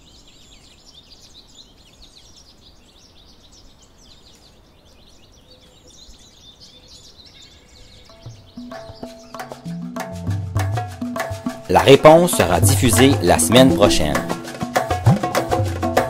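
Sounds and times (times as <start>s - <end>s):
birds chirping: 0.0s - 10.3s, 11.0s - 16.0s.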